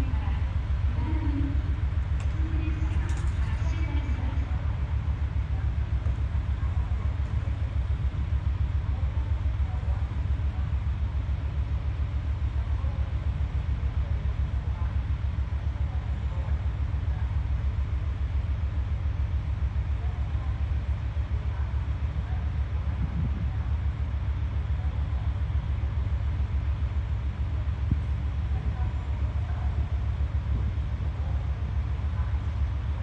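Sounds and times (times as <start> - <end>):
diesel railcar engine idling: 0.0 - 33.0.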